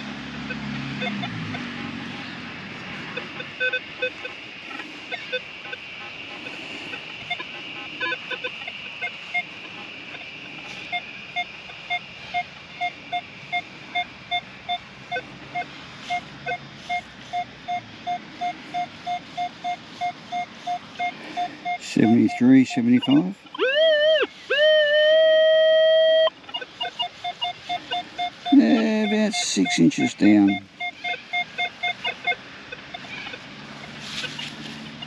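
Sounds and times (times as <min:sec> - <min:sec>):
metal detector beeps: 0:00.0 - 0:01.7, 0:03.0 - 0:35.0
steady background hiss: 0:00.0 - 0:35.0.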